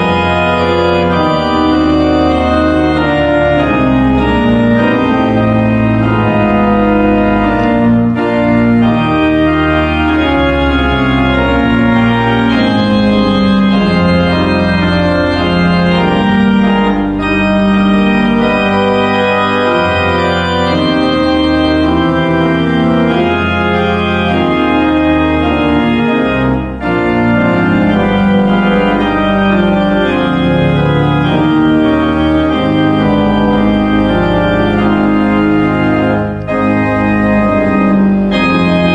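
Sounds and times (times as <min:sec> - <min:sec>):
organ playing slow chords: 0:00.0 - 0:38.9.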